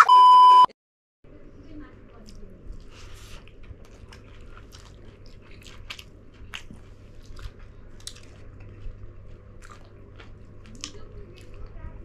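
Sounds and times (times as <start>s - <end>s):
people chewing and biting: 2.1s - 12.0s.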